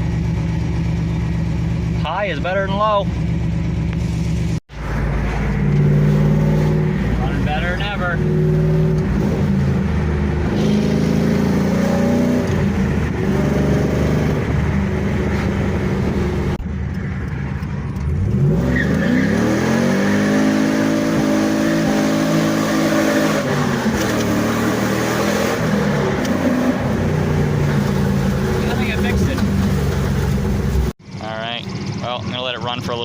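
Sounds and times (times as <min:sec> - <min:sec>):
car engine revving and idling: 0:00.0 - 0:33.0.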